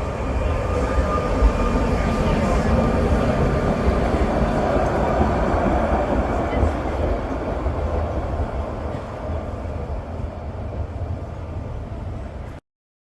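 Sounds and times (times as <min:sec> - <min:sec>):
tram rumbling on rails: 0:00.0 - 0:12.6.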